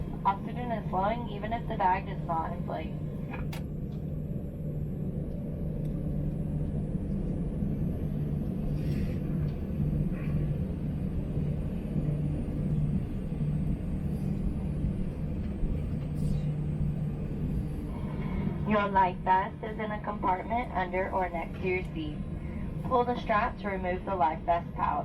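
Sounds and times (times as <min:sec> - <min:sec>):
airplane cabin rumble and drone: 0:00.0 - 0:25.0.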